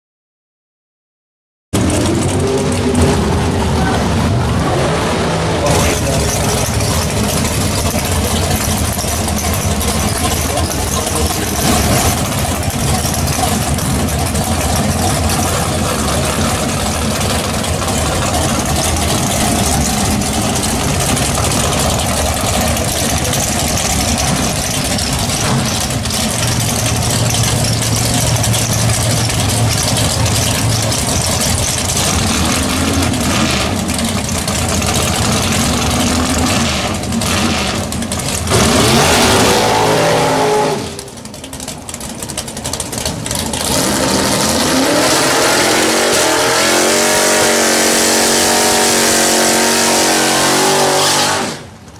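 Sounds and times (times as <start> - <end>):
car engine idling loudly: 1.8 - 51.9.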